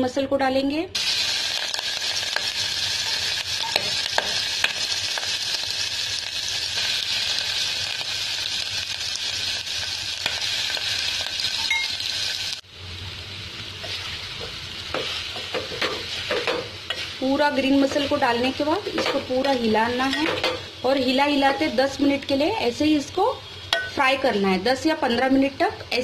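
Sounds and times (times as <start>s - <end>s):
mussels sizzling in hot oil: 1.0s - 26.0s.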